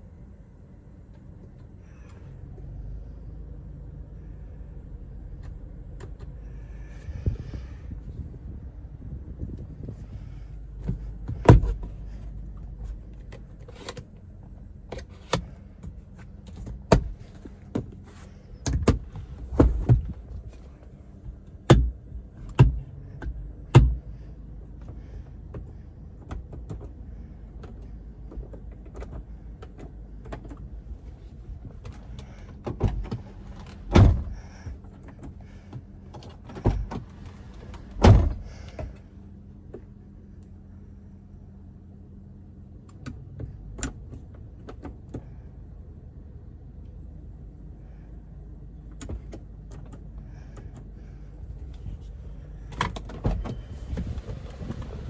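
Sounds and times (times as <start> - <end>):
steady low hum: 0.0 - 55.0
car cabin clicks and thunks: 4.6 - 40.6, 42.5 - 47.6, 48.7 - 55.0.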